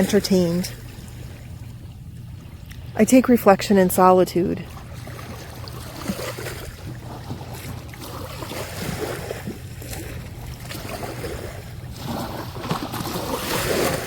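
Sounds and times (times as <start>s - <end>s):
small waves breaking on shore: 0.0s - 3.3s, 4.6s - 14.0s.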